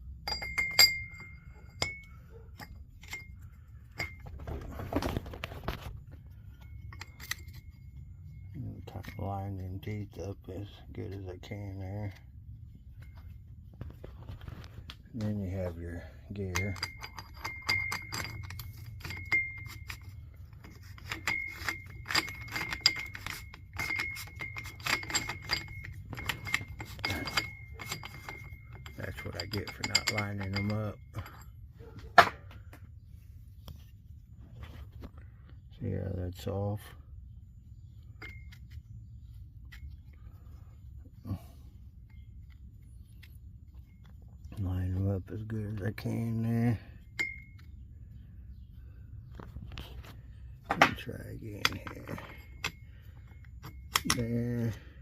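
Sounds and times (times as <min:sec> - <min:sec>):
metal parts clinking: 0:00.1 - 0:10.8, 0:12.9 - 0:32.7, 0:37.9 - 0:48.3, 0:49.4 - 0:55.0.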